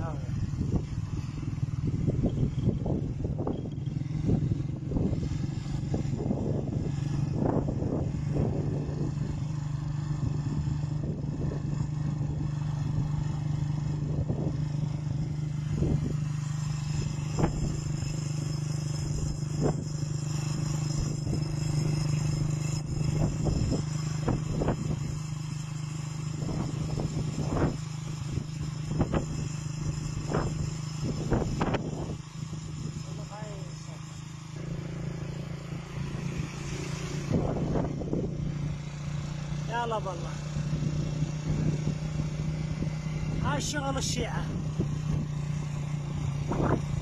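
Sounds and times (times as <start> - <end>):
road rumble: 0.0 - 47.0
vehicle engine drone: 0.0 - 47.0.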